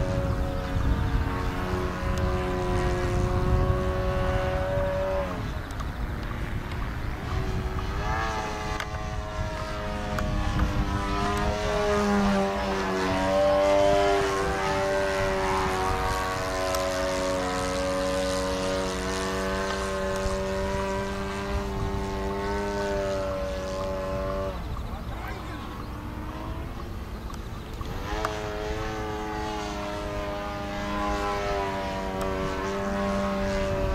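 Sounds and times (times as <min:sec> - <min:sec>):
model airplane engine: 0:00.0 - 0:33.9.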